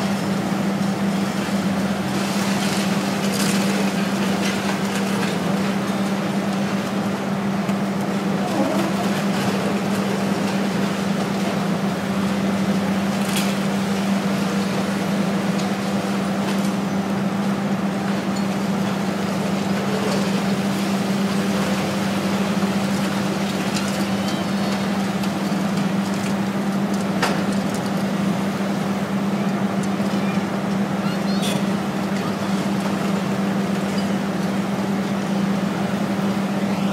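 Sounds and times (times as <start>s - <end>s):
diesel engine humming: 0.0s - 36.9s.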